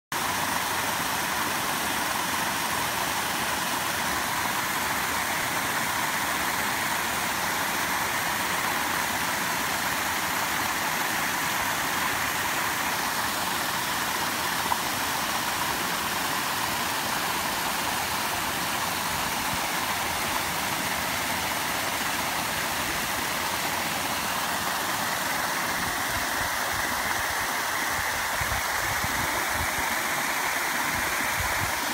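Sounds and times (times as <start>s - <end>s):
paddlewheel aerator splashing water: 0.2s - 31.9s.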